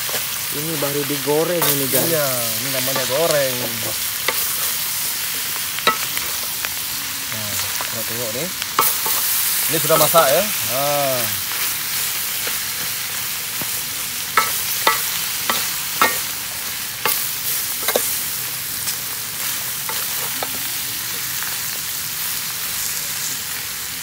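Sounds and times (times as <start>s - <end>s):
food sizzling in wok: 0.0s - 24.0s.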